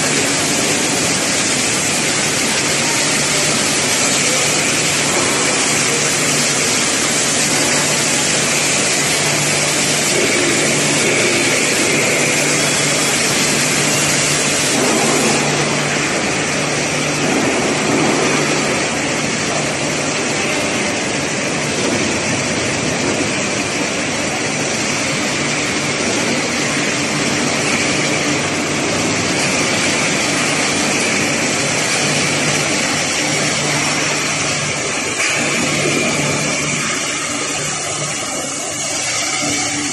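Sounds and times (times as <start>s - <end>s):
pipe mill machinery noise: 0.0s - 39.9s.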